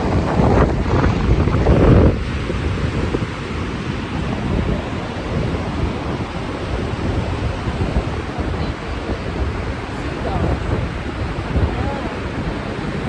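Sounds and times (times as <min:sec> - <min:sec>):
sea waves: 0:00.0 - 0:13.0
wind blowing on microphone: 0:00.0 - 0:13.0.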